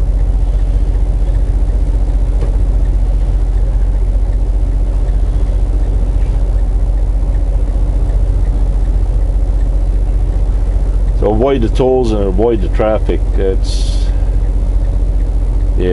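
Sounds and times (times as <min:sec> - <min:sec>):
diesel truck engine drone: 0:00.0 - 0:15.9.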